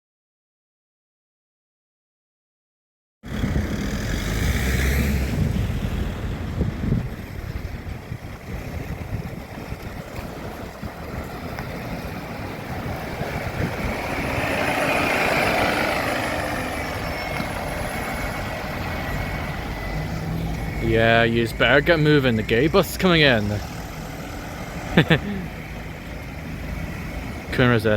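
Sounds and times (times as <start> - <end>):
vehicle engines running: 3.3 - 27.9
vehicle passing: 3.3 - 27.9.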